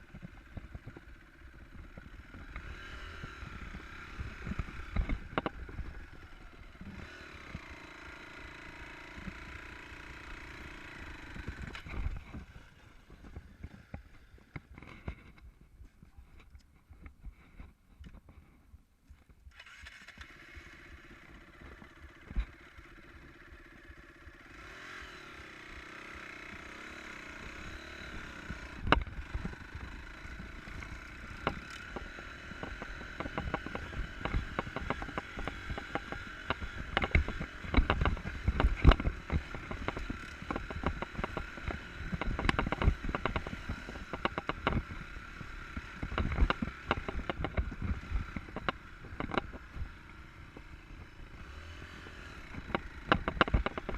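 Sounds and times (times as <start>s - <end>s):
motorcycle engine: 0.0s - 18.6s, 19.4s - 53.9s
knocks and clatter over rough ground: 0.0s - 53.9s.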